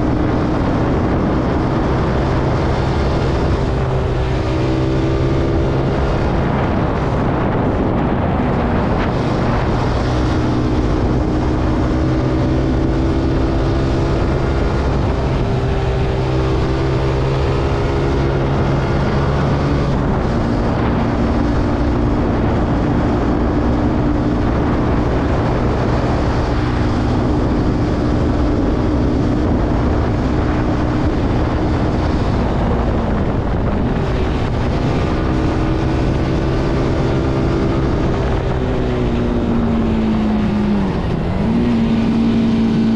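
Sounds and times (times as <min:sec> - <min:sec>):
motorcycle engine running: 0:00.0 - 0:42.9
wind on microphone: 0:00.0 - 0:42.9.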